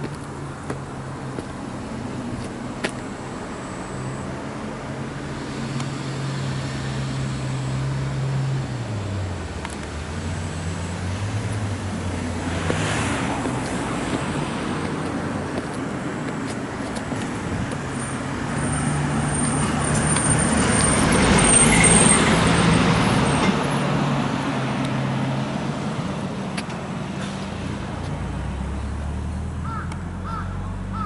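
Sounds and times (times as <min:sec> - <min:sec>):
vehicle passing on road: 0:00.0 - 0:31.0.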